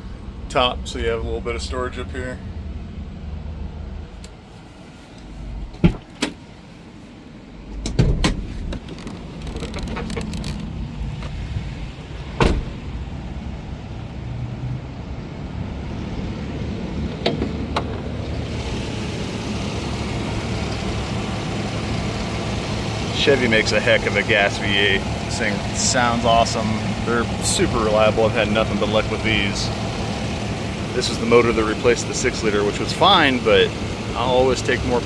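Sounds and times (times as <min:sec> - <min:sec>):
van engine starting and idling: 0:00.0 - 0:35.0.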